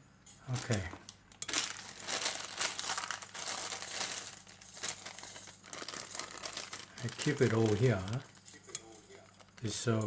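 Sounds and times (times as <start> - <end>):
plastic bag crinkling: 0.4 - 10.0.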